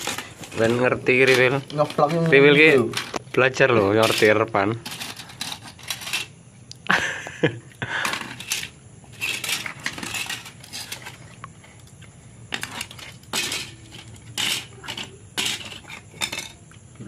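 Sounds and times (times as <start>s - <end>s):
circuit boards clattering on concrete: 0.0s - 6.4s, 7.9s - 17.0s.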